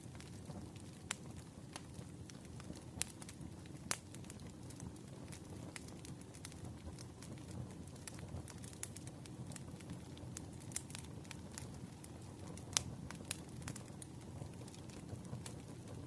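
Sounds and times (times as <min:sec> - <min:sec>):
firewood crackling and popping: 0:00.0 - 0:16.0
low rumble of flames: 0:00.0 - 0:16.0.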